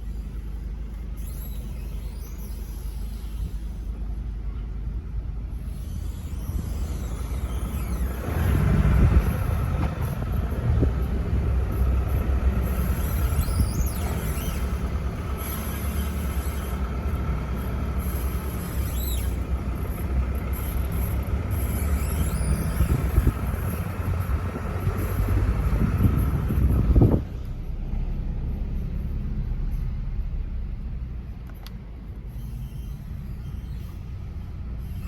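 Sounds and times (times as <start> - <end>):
car engine low rumble: 0.0 - 35.0
brief high-pitched squeaks: 0.9 - 4.2, 5.5 - 10.4, 12.1 - 30.3, 31.6 - 35.0.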